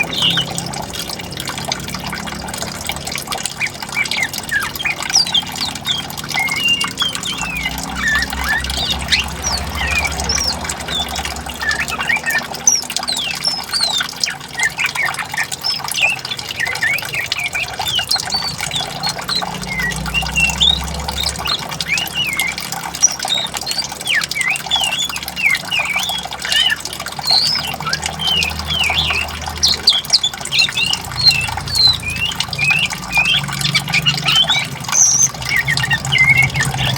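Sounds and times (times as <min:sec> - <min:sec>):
birds chirping and squawking: 0:00.0 - 0:36.9
flowing water: 0:00.0 - 0:36.9.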